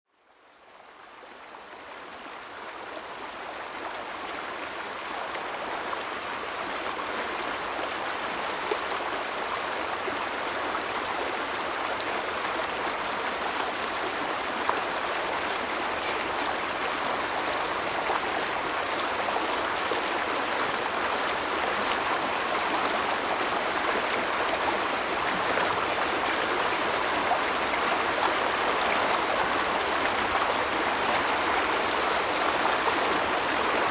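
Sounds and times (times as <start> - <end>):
stream water flowing and splashing: 0.2 - 33.9.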